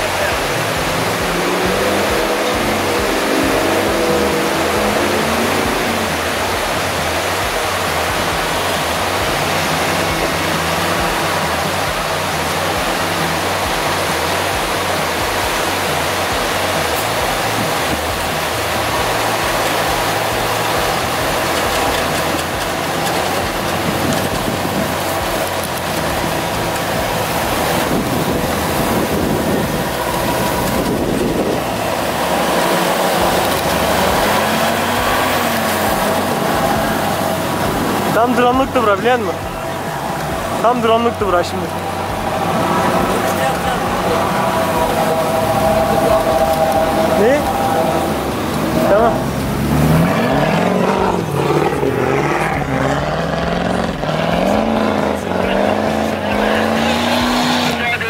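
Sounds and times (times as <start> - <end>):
low engine rumble: 0.0 - 58.0
mountain stream rushing: 0.0 - 58.0
tyres churning through snow: 0.0 - 58.0.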